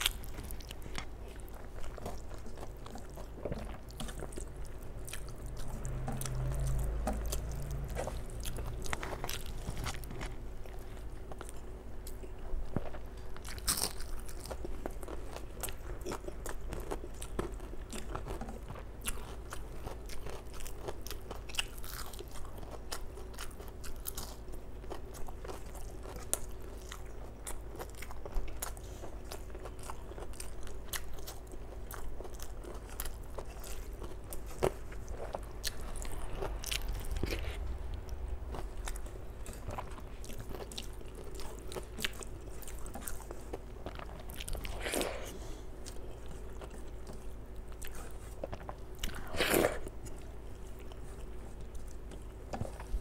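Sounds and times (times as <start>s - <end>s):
chewing and crunching: 0.0s - 53.0s.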